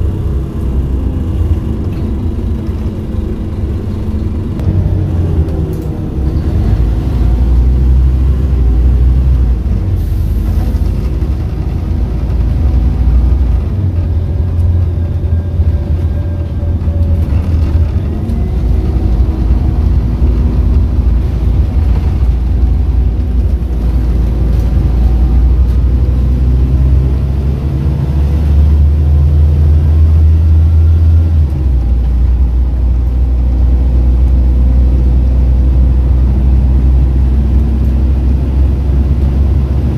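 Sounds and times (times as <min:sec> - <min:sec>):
bus diesel engine under load: 0:00.0 - 0:39.9
road and tyre rumble: 0:00.0 - 0:39.9.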